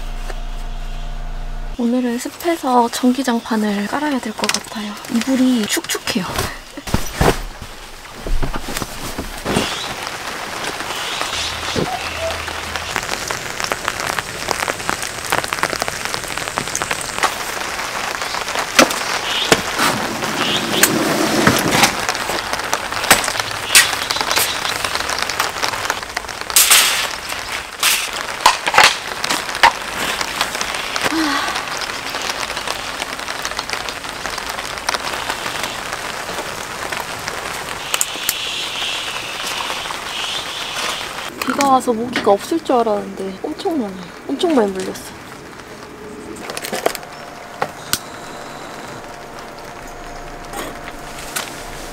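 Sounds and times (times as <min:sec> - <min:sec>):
rain pattering on a tarp: 0:01.7 - 0:51.9.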